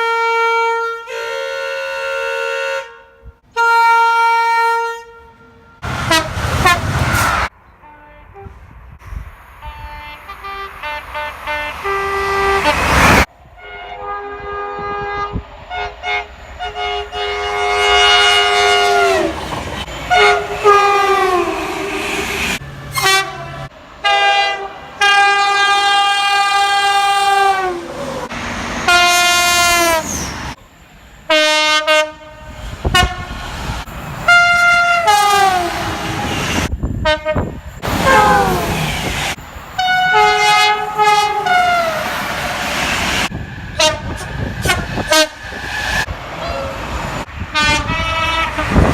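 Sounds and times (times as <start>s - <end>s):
train horns blasting: 0.0s - 8.8s, 9.6s - 30.6s, 31.2s - 33.5s, 34.2s - 42.4s, 43.7s - 46.0s, 46.6s - 48.9s.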